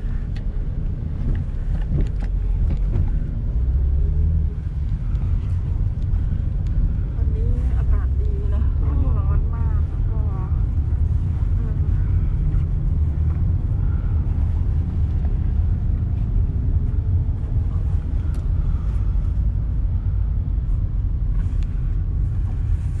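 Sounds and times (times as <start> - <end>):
ferry engine rumble: 0.0 - 23.0.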